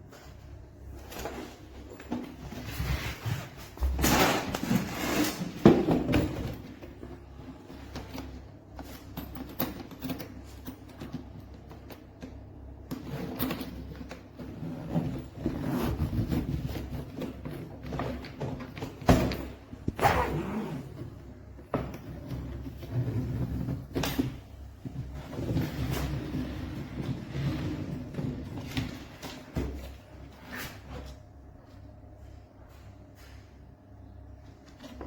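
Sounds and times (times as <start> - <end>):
suitcase handling scrapes and clacks: 0.1 - 11.4, 12.9 - 31.2.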